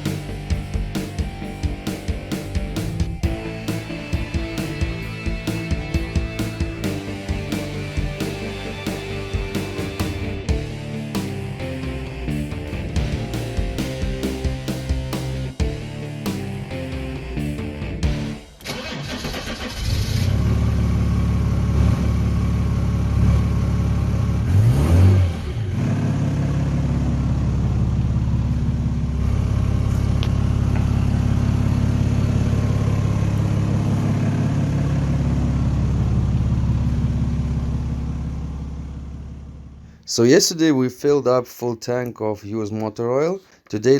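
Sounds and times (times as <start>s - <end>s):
diesel engine revving and idling: 0.0s - 40.0s.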